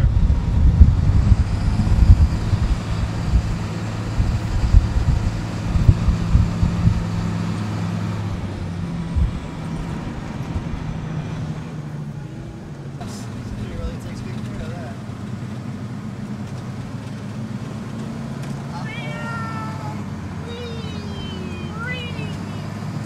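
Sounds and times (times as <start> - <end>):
road noise: 0.0 - 23.0
truck engine drone: 0.0 - 23.0.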